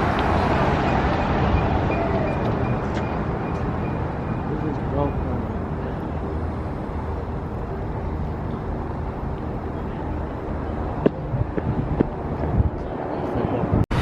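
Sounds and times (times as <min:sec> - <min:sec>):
passing traffic rumble: 0:00.0 - 0:14.0.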